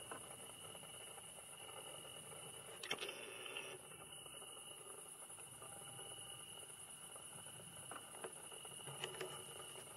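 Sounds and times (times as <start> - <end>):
night insects chirring: 0.0 - 9.9.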